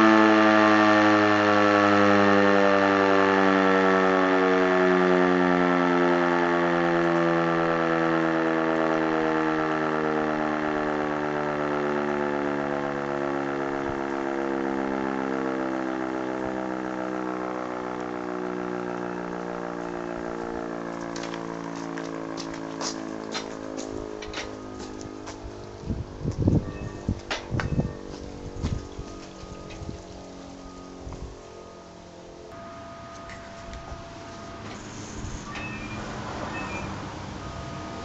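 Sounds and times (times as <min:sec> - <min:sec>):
motor siren winding down: 0:00.0 - 0:38.0.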